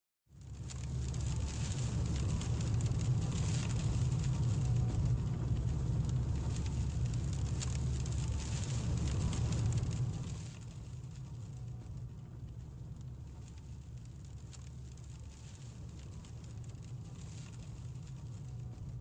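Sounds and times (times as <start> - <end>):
rain on windscreen: 0.3 - 19.0
car engine and road noise: 0.7 - 18.7.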